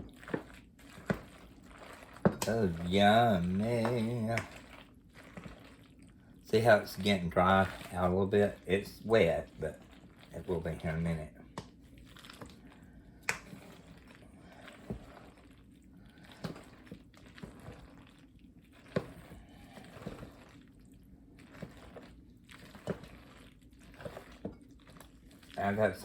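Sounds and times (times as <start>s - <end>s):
wet squishing of salad: 0.0s - 26.0s.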